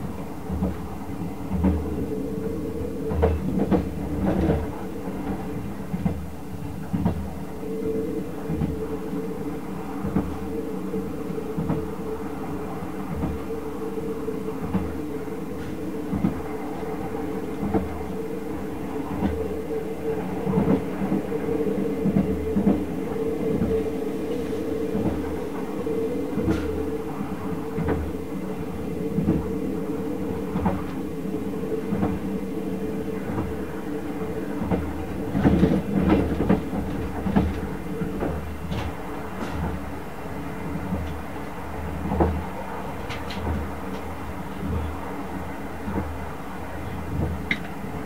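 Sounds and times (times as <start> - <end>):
train coach hum and rumble: 0.0 - 48.0.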